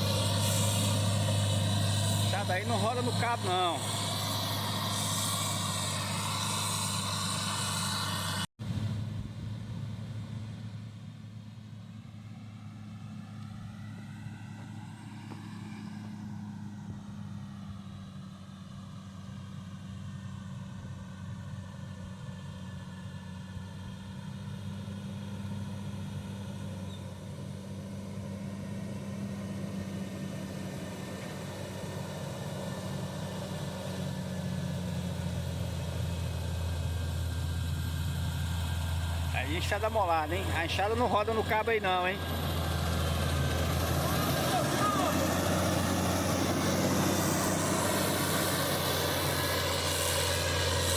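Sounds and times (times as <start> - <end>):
diesel machine engine droning: 0.0 - 50.9.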